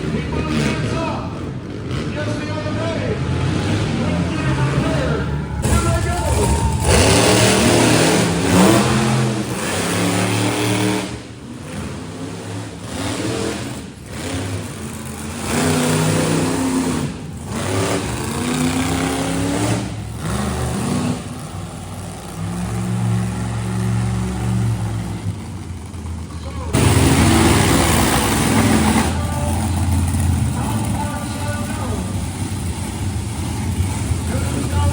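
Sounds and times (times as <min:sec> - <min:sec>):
monster truck engines revving: 0:00.0 - 0:34.9.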